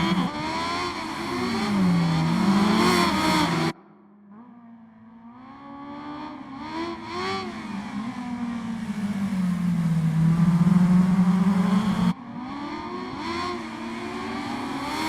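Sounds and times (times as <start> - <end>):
motorcycle engine revving: 0.0 - 3.8, 5.6 - 15.0.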